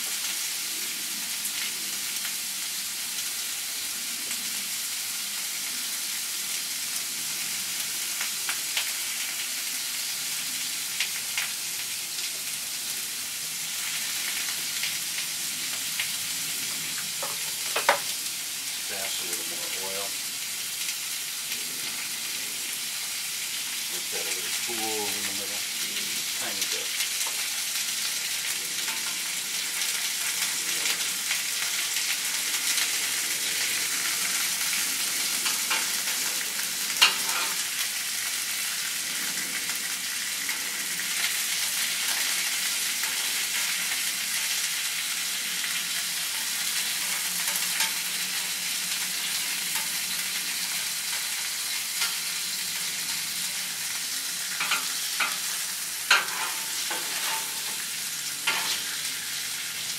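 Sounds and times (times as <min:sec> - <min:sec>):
chicken wings sizzling on grill: 0:00.0 - 0:59.9.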